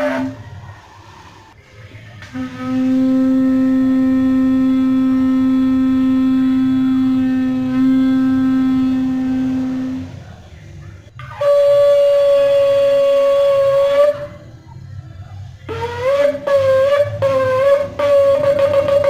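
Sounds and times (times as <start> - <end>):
shofar blasts: 0.0 - 0.6, 2.2 - 10.4, 11.2 - 14.6, 15.6 - 19.0.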